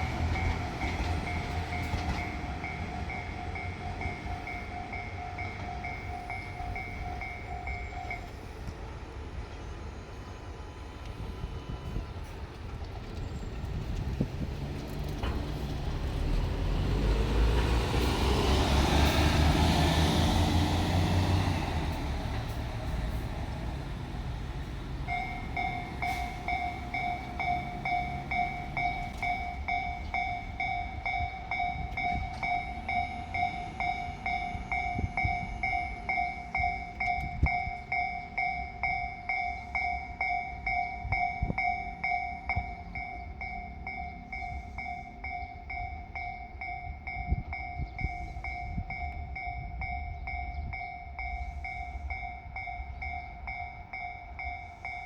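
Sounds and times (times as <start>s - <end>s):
crossing warning bell clanging: 0.0s - 9.6s, 11.1s - 55.0s
railcar engine rumbling: 0.0s - 55.0s.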